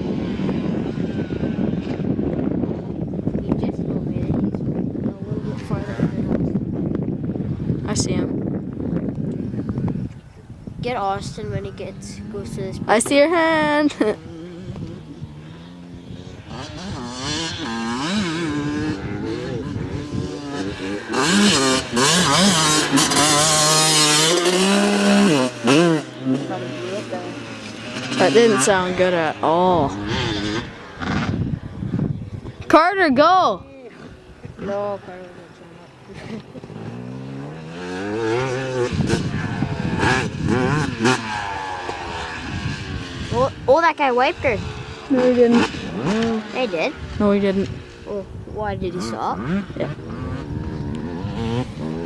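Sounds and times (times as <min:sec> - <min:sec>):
dirt bike engine revving: 0:00.0 - 0:08.6, 0:12.0 - 0:52.0.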